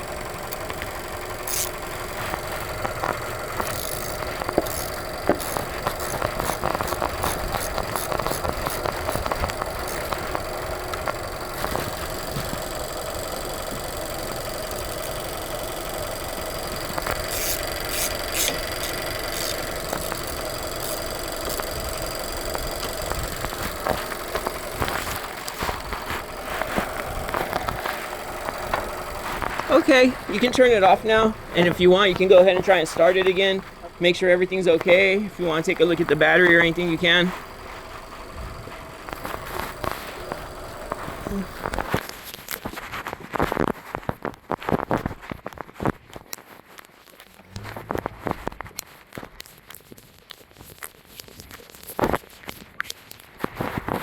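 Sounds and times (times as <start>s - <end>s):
car engine idling: 0.0s - 42.4s, 47.2s - 48.7s.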